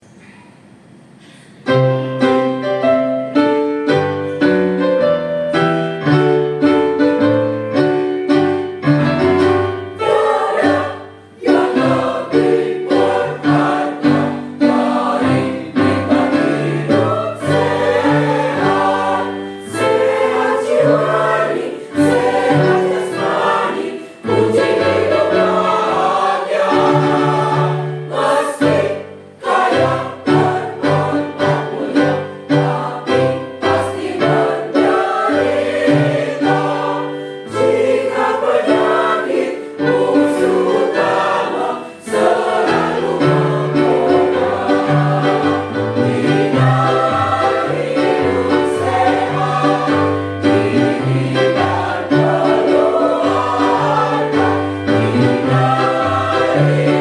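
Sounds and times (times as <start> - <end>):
instrumental accompaniment: 1.8 - 57.0
choir singing a march: 9.0 - 57.0.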